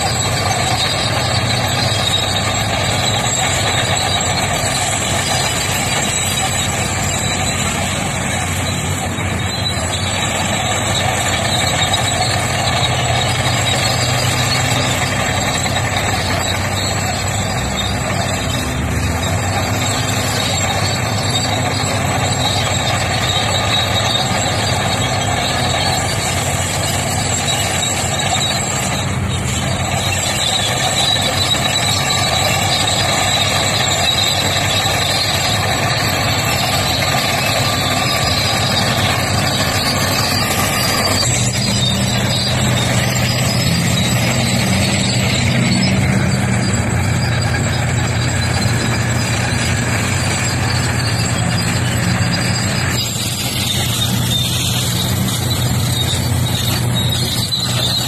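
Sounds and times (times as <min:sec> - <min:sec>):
bulldozer diesel engine pushing rock: 0:00.0 - 0:58.0
haul trucks driving by: 0:00.0 - 0:58.0.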